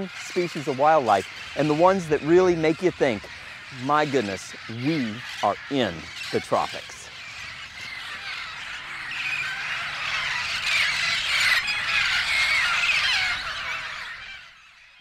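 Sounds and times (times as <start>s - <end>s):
flock of parrots squawking: 0.0s - 15.0s.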